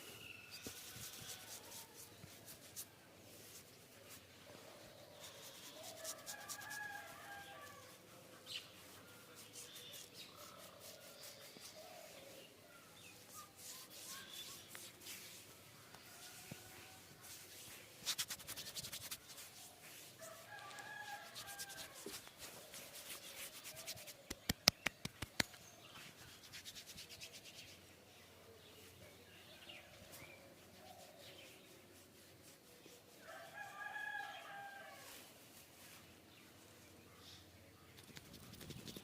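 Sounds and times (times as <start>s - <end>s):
soft rubbing: 0.0s - 24.6s, 25.2s - 29.0s, 29.9s - 36.9s.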